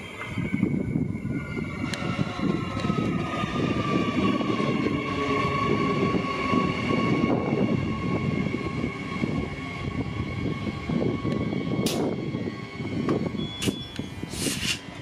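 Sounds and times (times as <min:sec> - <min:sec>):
electric train whine: 0:00.0 - 0:15.0
train wheels rumbling on rails: 0:00.0 - 0:15.0.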